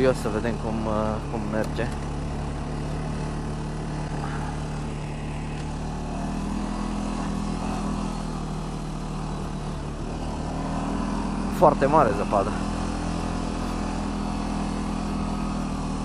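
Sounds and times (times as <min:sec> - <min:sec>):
quad bike engine droning: 0:00.0 - 0:16.0.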